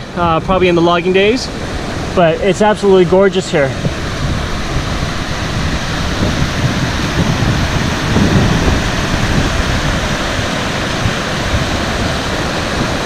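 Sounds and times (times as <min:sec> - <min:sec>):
river rapids rushing over rocks: 0:00.0 - 0:13.0
wind gusting on microphone: 0:00.0 - 0:13.0.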